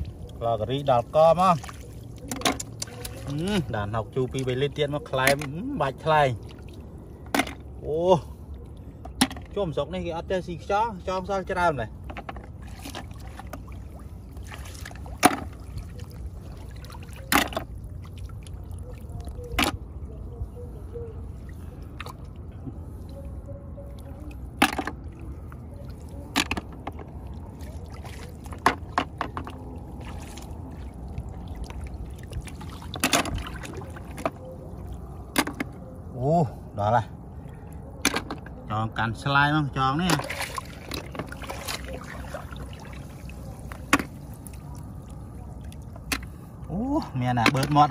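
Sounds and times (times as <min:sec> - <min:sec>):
water splashing and dribbling: 0:00.0 - 0:47.9.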